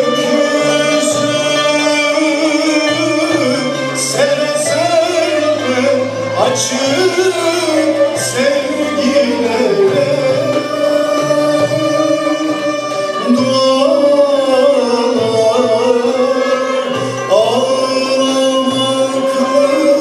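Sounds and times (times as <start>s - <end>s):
instrumental ensemble with violins: 0.0s - 20.0s
man singing: 0.0s - 20.0s.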